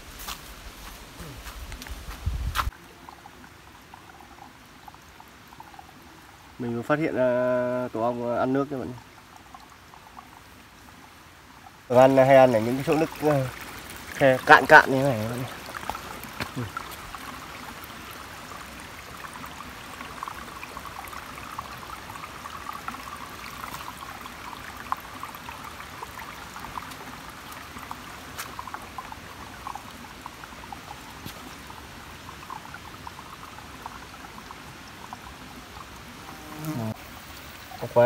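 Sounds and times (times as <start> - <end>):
stream trickling over rocks: 0.0 - 38.0.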